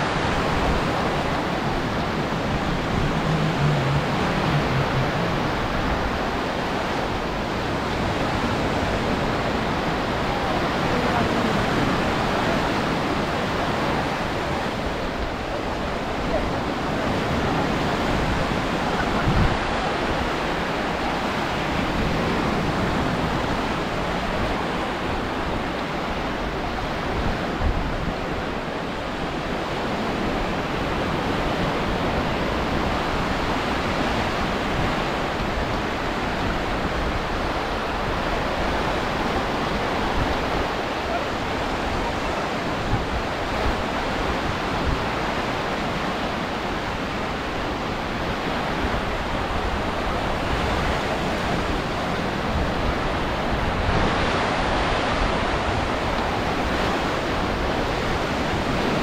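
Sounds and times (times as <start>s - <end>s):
sea surf on a beach: 0.0s - 59.0s
wind buffeting microphone: 0.0s - 59.0s.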